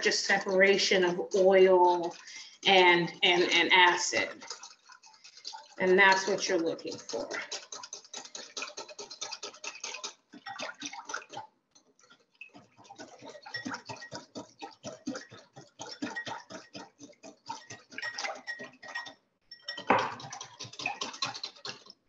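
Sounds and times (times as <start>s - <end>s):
whisk clicking against bowl: 0.0s - 22.0s.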